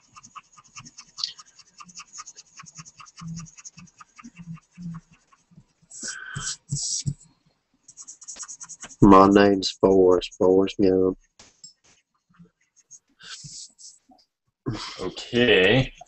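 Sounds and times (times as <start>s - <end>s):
pen scratching on paper: 0.0s - 14.1s, 15.0s - 16.0s.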